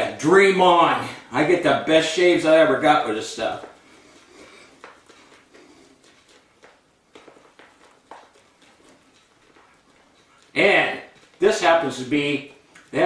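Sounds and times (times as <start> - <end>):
shaving brush lathering in a bowl: 2.0 - 13.0.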